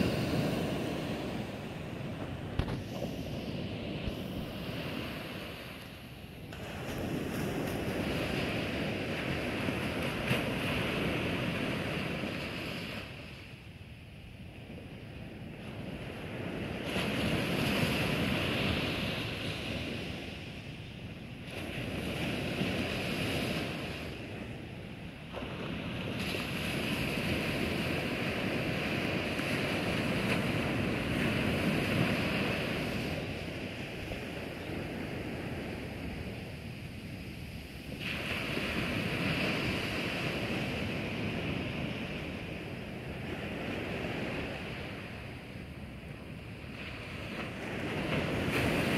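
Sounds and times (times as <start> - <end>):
small waves breaking on shore: 0.0 - 48.9.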